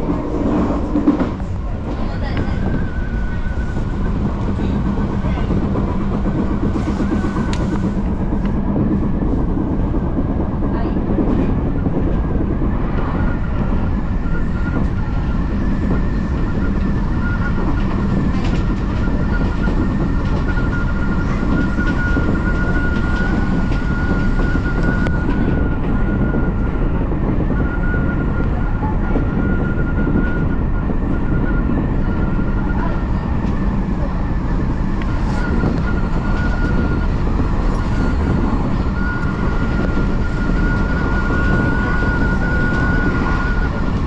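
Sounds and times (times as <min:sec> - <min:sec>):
train wheels rumbling on track: 0:00.0 - 0:44.0.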